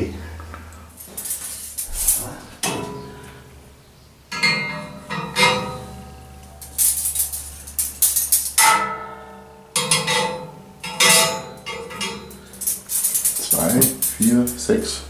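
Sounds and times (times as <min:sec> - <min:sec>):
metal skewers clinking: 0:00.9 - 0:03.4, 0:04.3 - 0:15.0.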